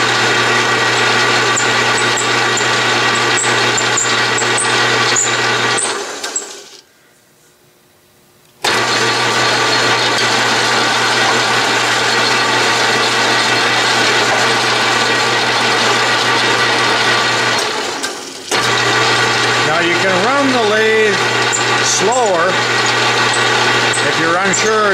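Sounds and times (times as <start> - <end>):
metal lathe running: 0.0 - 6.8, 8.6 - 24.9.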